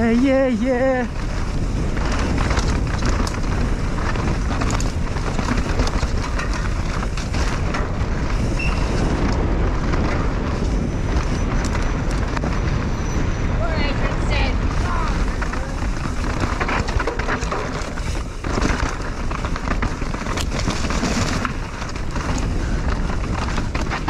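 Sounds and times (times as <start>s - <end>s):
bike rattling over rough ground: 0.0s - 24.0s
bike tyre noise: 0.0s - 24.0s
wind rumble on microphone: 0.0s - 24.0s.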